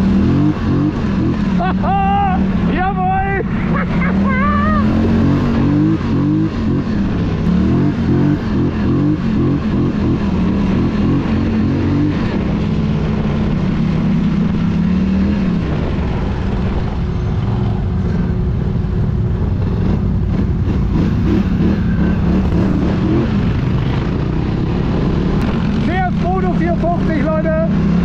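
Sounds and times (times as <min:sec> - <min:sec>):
quad engine revving: 0:00.0 - 0:17.0, 0:19.6 - 0:28.0
other quad engines: 0:00.0 - 0:28.0.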